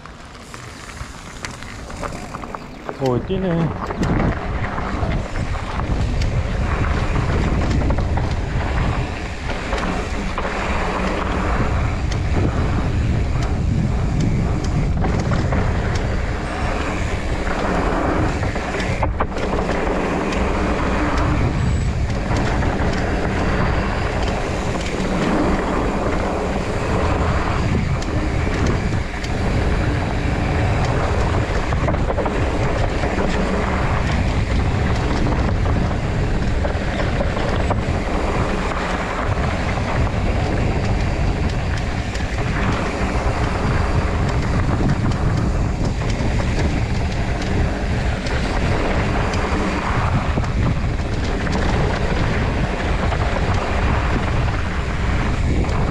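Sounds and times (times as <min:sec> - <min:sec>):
bike tyres rolling on dirt: 0:00.0 - 0:55.9
wind rushing over microphone: 0:00.0 - 0:55.9.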